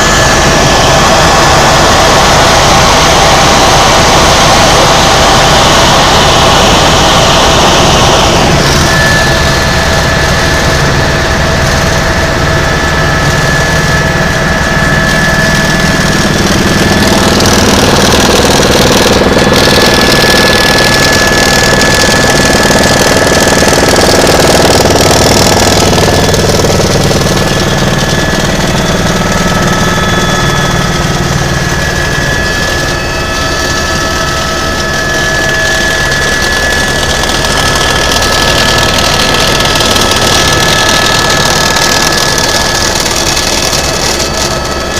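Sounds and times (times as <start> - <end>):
helicopter engine and rotor: 0.0 - 44.9.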